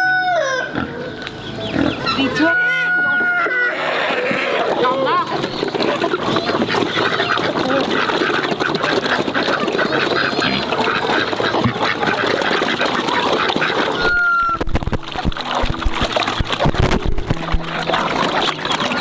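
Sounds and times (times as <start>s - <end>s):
poultry calling and chattering: 0.0s - 19.0s.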